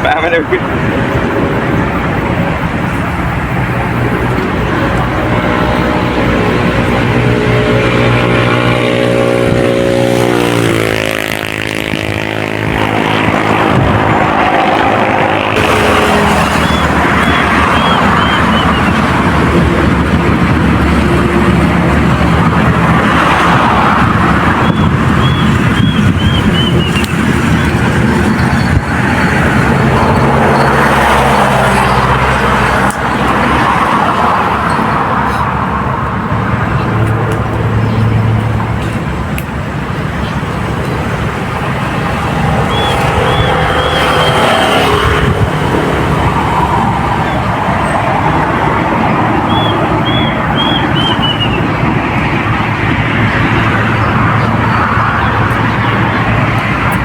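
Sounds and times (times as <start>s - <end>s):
engine running: 0.0s - 57.0s
loud rushing noise: 0.0s - 57.0s
road traffic noise: 0.0s - 57.0s.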